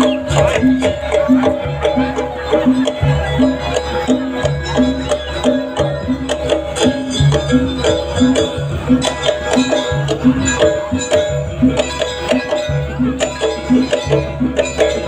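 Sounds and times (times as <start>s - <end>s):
drum beats: 0.0s - 15.0s
tuned metal percussion melody: 0.0s - 15.0s.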